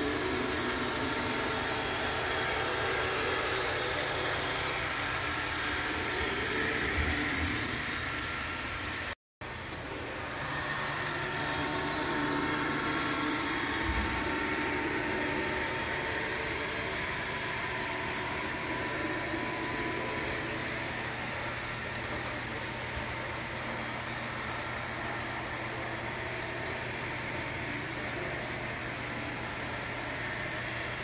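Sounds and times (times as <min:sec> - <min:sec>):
model train motor hum: 0:00.0 - 0:31.0.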